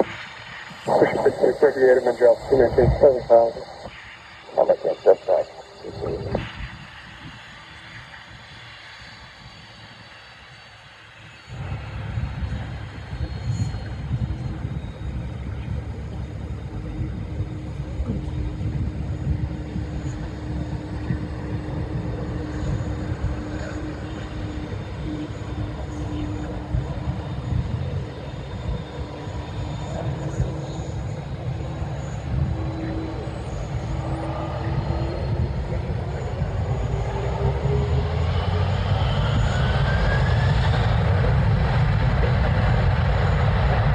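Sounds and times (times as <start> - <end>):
jet engines low rumble: 0.0 - 43.9.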